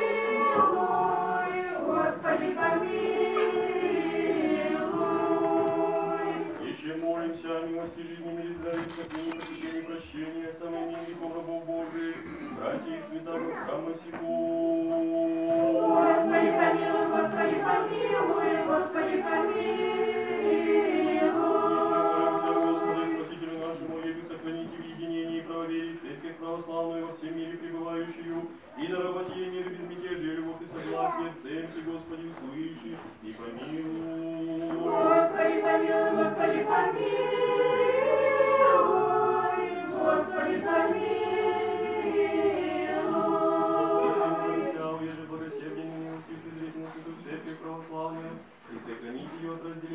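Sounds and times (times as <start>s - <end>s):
choir chanting a cappella: 0.0s - 9.1s, 9.8s - 49.9s.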